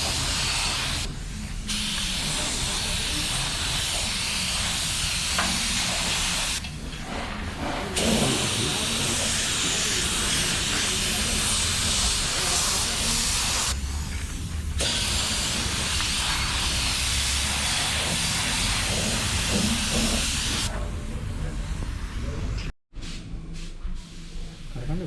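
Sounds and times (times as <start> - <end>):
spray hissing: 0.0 - 6.6, 7.9 - 13.8, 14.8 - 22.6.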